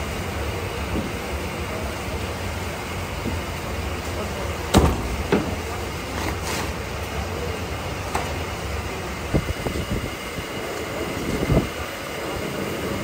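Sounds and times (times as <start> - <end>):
workshop hum and hiss: 0.0 - 13.0.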